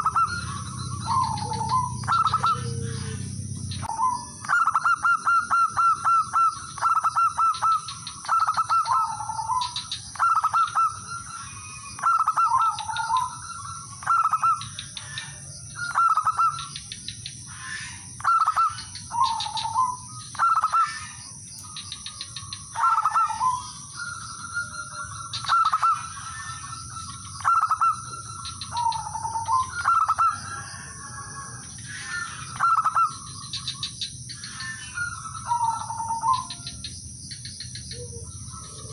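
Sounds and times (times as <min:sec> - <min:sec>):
dove cooing: 0:00.0 - 0:36.9, 0:37.6 - 0:38.9.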